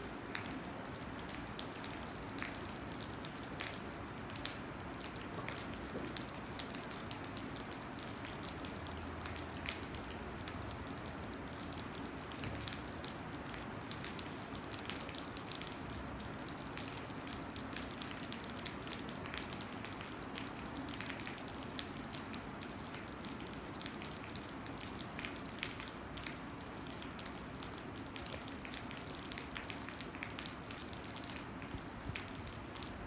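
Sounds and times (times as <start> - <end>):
raindrops striking close by: 0.0 - 33.0
steady rain: 0.0 - 33.0.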